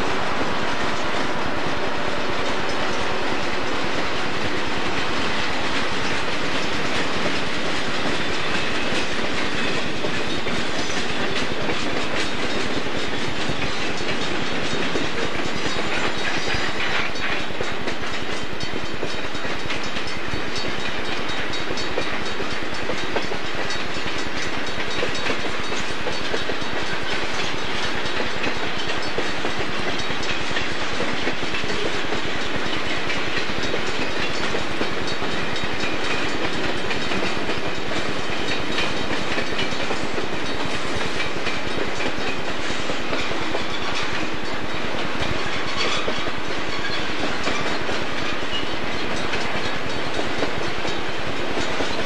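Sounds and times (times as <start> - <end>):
freight train rumbling past: 0.0 - 52.0
wheels clicking over rail joints: 0.0 - 52.0.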